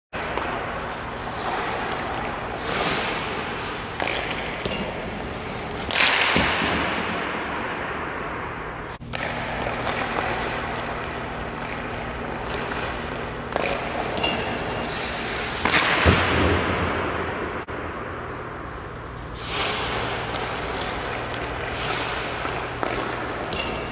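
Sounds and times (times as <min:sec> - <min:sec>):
hockey stick hitting puck: 0:00.2 - 0:18.1, 0:19.4 - 0:23.9
steady low hum: 0:00.2 - 0:23.9.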